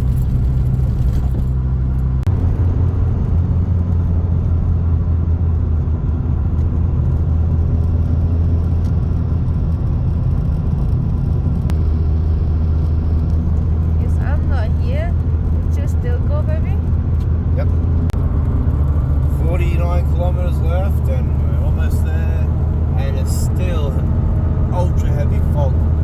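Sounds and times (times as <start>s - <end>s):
car engine and road drone: 0.0s - 26.0s.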